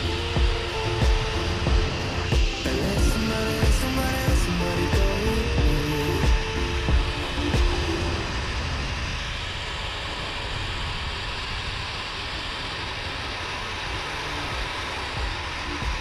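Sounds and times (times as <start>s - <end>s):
wind noise on microphone: 0.0s - 16.0s
zipline pulleys whirring on cable: 0.0s - 16.0s.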